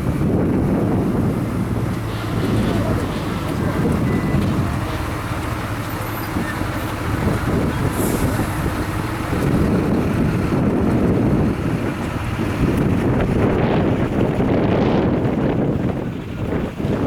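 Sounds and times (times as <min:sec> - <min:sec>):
steam roller running: 0:00.0 - 0:17.0
wind rumbling on microphone: 0:00.0 - 0:17.0.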